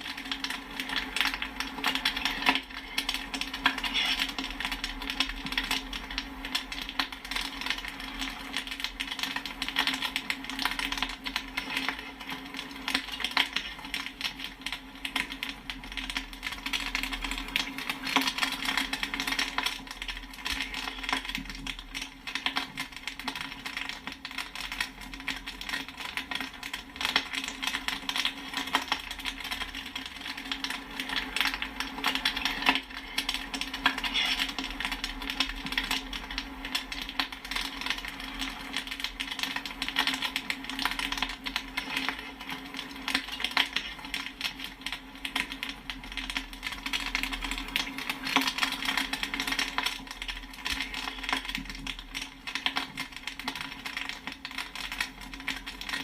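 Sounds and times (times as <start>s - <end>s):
popcorn popping: 0.0s - 56.0s.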